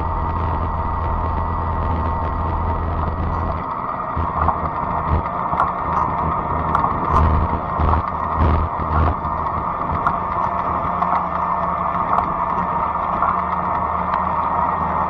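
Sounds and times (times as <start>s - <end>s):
electric bike motor hum: 0.0s - 15.0s
light ticks: 2.3s - 15.0s.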